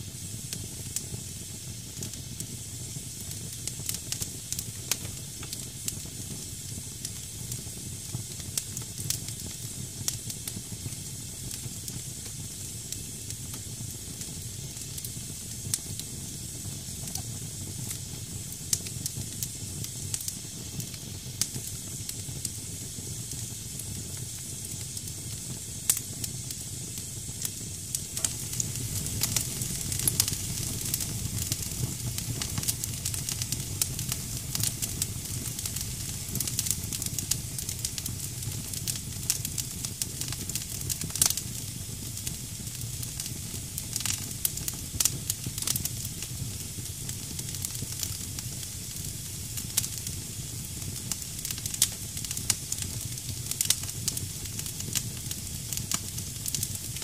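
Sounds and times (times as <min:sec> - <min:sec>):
fire hissing: 0:00.0 - 0:57.0
low rumble of flame: 0:00.0 - 0:57.0
wood crackling and popping: 0:03.5 - 0:06.3, 0:07.0 - 0:42.3, 0:48.9 - 0:57.0.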